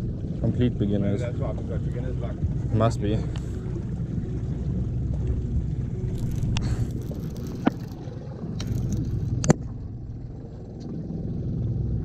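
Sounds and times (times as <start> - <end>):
boat motor running: 0.0 - 12.0
low rumble of ride: 0.0 - 12.0.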